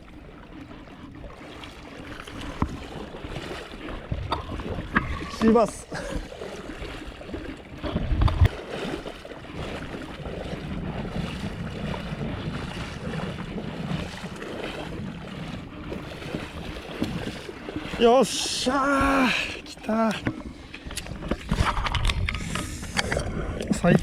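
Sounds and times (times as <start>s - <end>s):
water sloshing: 0.0s - 24.0s
wind buffeting microphone: 2.2s - 24.0s.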